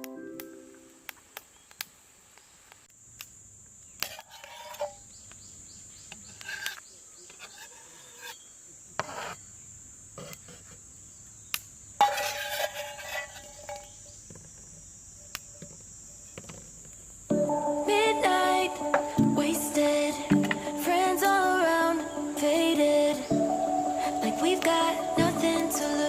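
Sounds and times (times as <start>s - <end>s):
crickets chirping: 2.4s - 26.0s.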